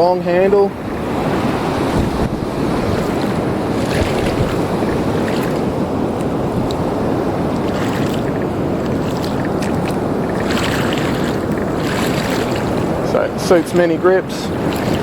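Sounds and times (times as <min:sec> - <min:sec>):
surf and water rushing: 0:00.0 - 0:15.0
wind buffeting microphone: 0:00.0 - 0:15.0.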